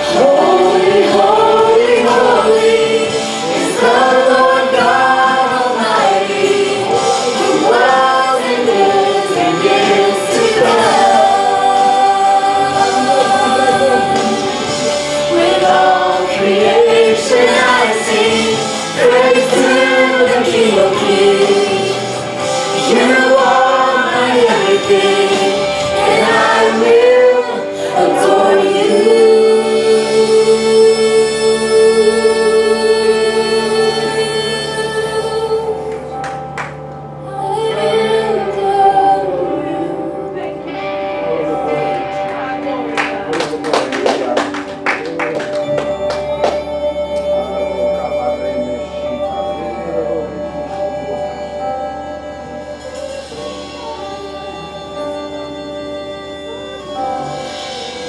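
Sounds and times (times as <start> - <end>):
group gospel singing: 0.0 - 58.0
musical accompaniment: 0.0 - 58.0.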